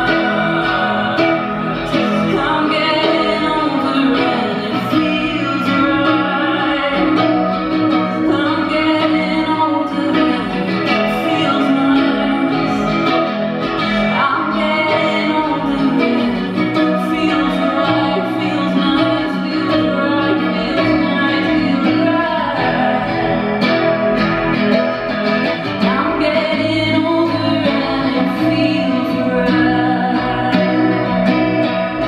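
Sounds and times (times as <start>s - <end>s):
live rock band playing: 0.0s - 32.0s
person singing: 0.0s - 32.0s.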